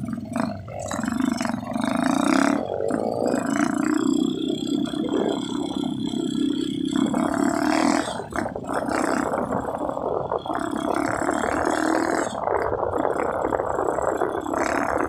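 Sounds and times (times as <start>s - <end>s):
small motorcycle engine: 0.0s - 15.0s
wind noise: 0.0s - 15.0s.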